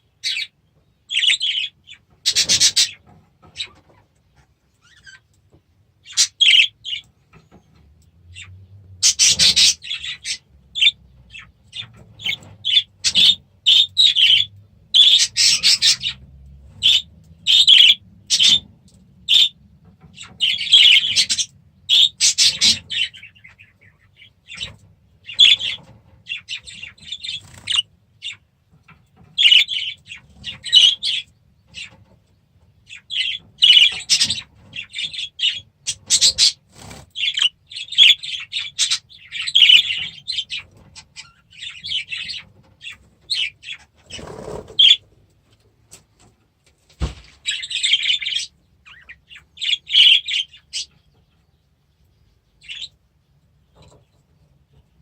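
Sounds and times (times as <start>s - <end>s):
cage birds chirping: 0.0s - 55.0s.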